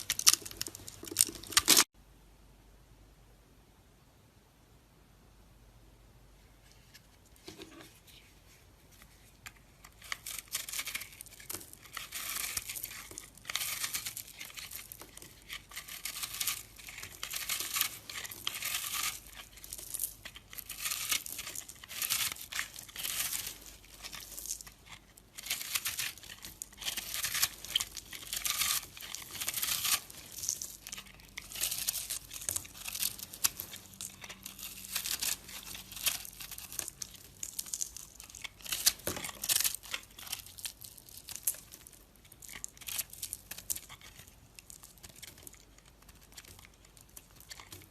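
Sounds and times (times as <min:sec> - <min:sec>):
knife shaving soap: 0:09.4 - 0:47.9.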